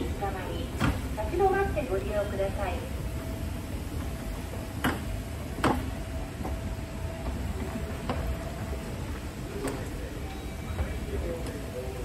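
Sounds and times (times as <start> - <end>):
faint constant hum: 0.0 - 12.0.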